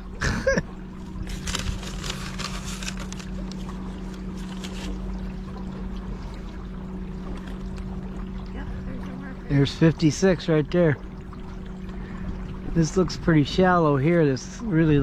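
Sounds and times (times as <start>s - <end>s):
electric boat motor humming: 0.0s - 15.0s.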